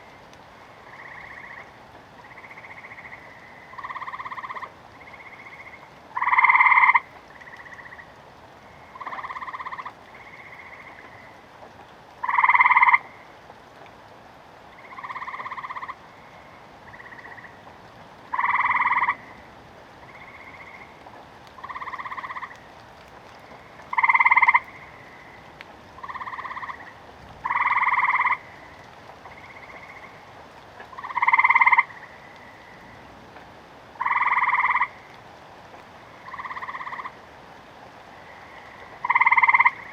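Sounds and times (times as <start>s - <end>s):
frogs croaking: 0.0s - 11.5s, 12.2s - 13.4s, 14.7s - 33.1s, 33.9s - 35.2s, 35.8s - 37.4s, 38.0s - 39.9s
faint steady hiss: 0.0s - 39.9s.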